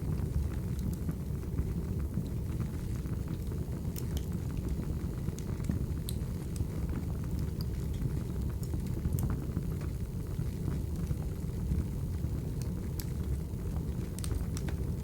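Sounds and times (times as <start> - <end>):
flames rumbling: 0.0 - 15.0
firewood crackling and popping: 0.2 - 15.0.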